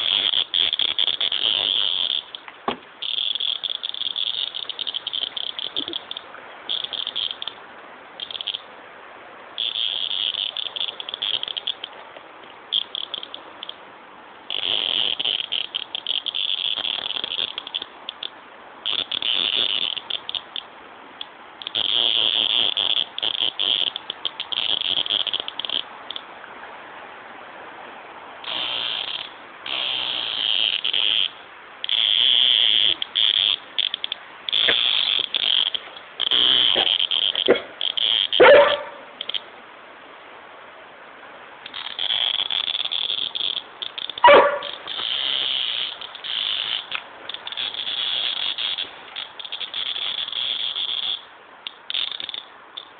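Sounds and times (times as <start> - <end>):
cicada distress buzzing: 0.0 - 7.6, 8.2 - 8.7, 9.6 - 12.0, 12.7 - 13.8, 14.4 - 26.2, 28.4 - 39.5, 41.6 - 52.9.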